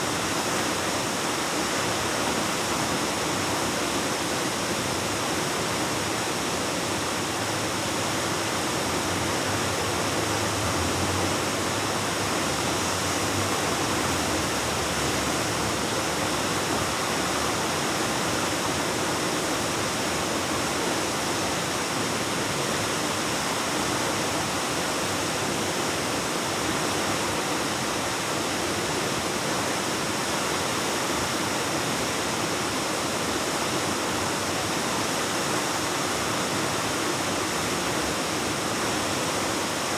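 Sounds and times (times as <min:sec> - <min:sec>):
waterfall echoing in cave: 0:00.0 - 0:39.9.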